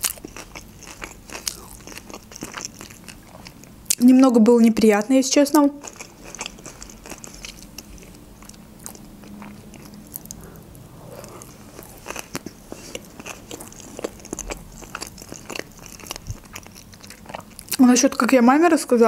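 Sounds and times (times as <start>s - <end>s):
wet chewing mouth clicks: 0.0s - 4.0s, 5.8s - 17.8s.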